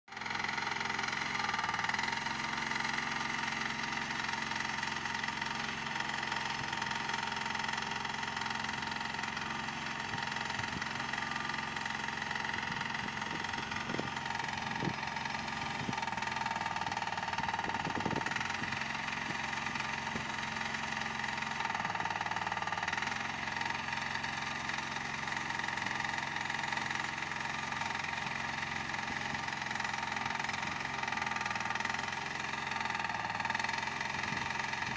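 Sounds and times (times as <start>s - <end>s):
small excavator engine running: 0.1s - 34.9s.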